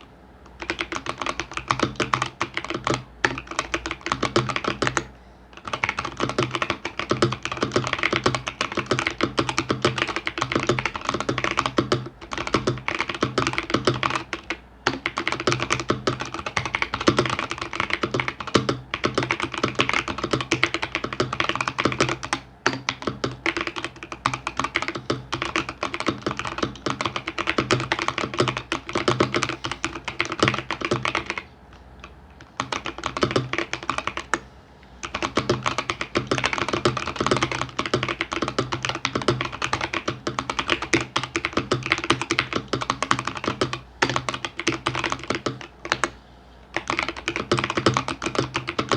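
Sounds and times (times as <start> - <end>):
mechanical keyboard typing: 0.5 - 34.4, 35.0 - 48.9.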